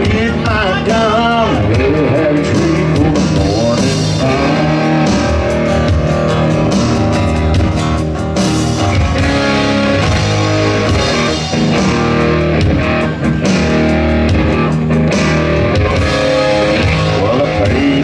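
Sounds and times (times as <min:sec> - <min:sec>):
country-rock band playing: 0:00.0 - 0:18.0
electric guitar: 0:00.0 - 0:18.0.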